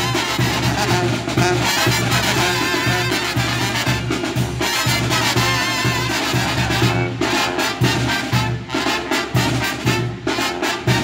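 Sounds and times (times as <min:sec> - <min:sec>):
latin brass band music: 0:00.0 - 0:11.0.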